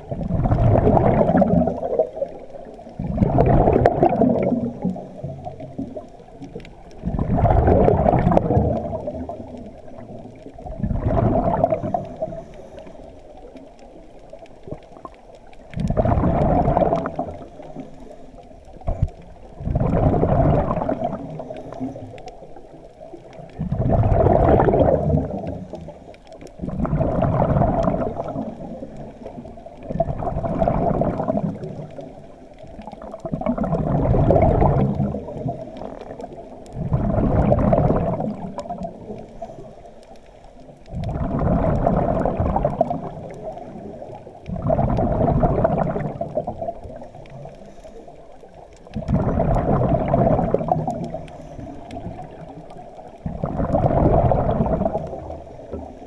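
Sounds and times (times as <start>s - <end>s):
underwater bubbles gurgling: 0.0s - 56.0s.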